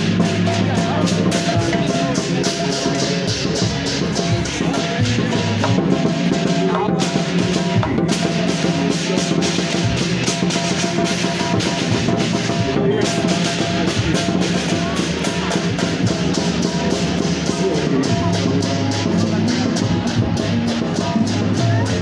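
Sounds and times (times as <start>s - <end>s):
fast drum strokes and rolls: 0.0s - 22.0s.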